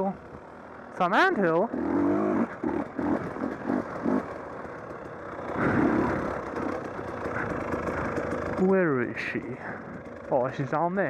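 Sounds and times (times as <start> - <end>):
dirt bike engine revving: 0.0 - 11.0
riding noise on rough trail: 0.0 - 11.0.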